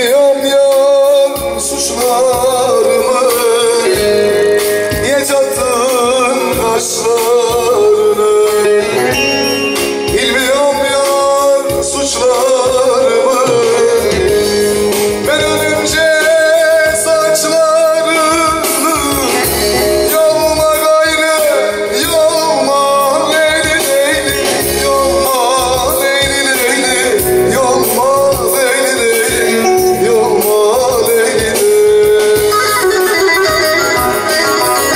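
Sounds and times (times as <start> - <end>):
keyboard rhythm and backing: 0.0 - 34.9
man singing: 0.0 - 34.9.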